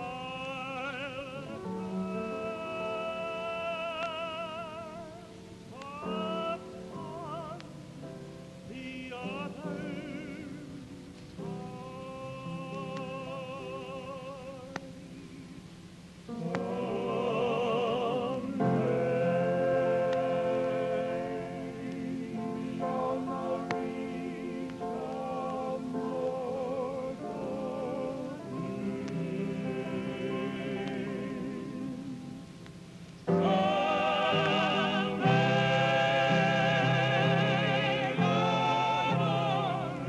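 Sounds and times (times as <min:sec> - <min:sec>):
man singing gospel song: 0:00.0 - 0:07.9, 0:08.6 - 0:15.7, 0:16.3 - 0:32.4, 0:33.3 - 0:40.0
sustained backing chords: 0:00.0 - 0:40.0.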